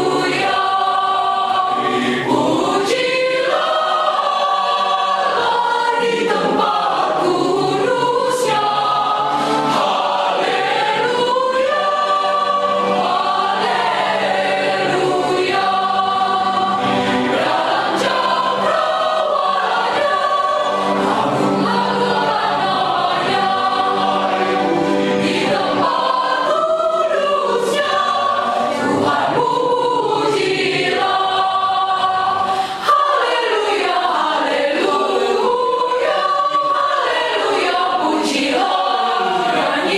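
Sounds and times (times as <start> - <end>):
mixed choir singing in parts: 0.0 - 39.9.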